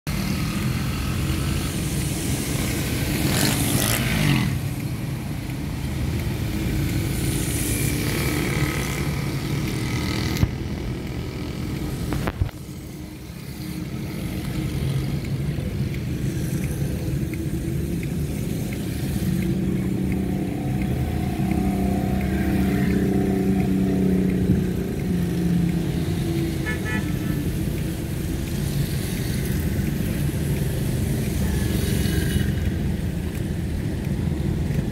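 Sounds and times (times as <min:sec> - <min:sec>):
motorcycle and car engines passing: 0:00.1 - 0:34.9.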